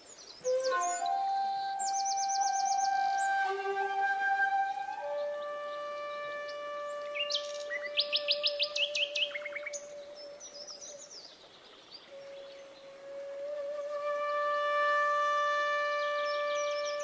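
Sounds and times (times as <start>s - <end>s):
birds chirping: 0.0s - 12.9s, 15.6s - 17.0s
held flute-like note: 0.4s - 11.1s, 12.1s - 17.0s.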